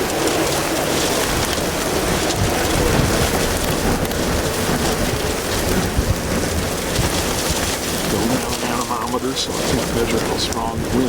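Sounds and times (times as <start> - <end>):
rain and hail pelting: 0.0 - 11.0
strong wind: 0.0 - 11.0
heavy low rumble: 1.2 - 11.0.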